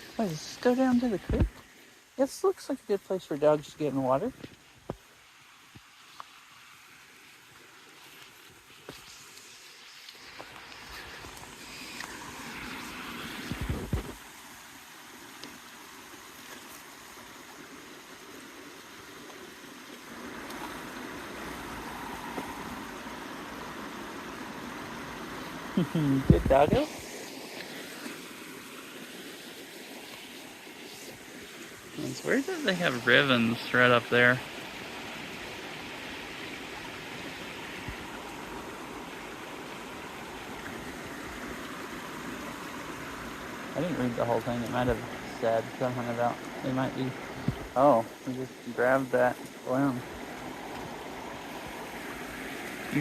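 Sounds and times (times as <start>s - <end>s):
creek water running: 0.0s - 53.0s.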